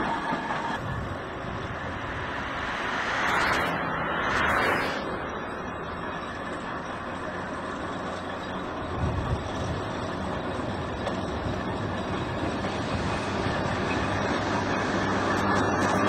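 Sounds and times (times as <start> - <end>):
steam traction engine running: 0.0 - 16.0.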